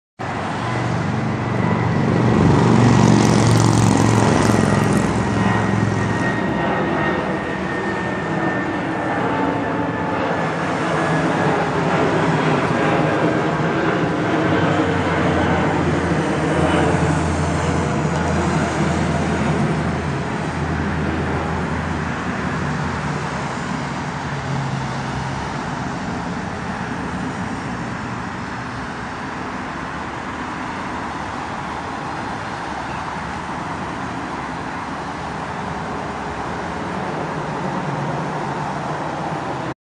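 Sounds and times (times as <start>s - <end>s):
jet engine rumble: 0.2s - 39.8s.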